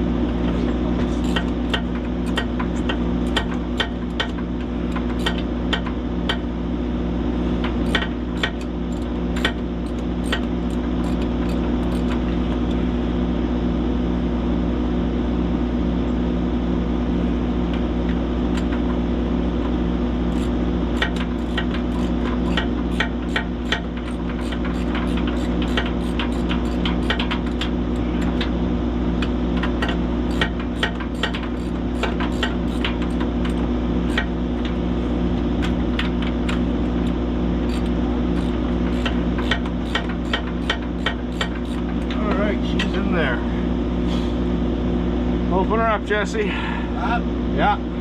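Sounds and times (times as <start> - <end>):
engine running steadily: 0.0 - 48.0.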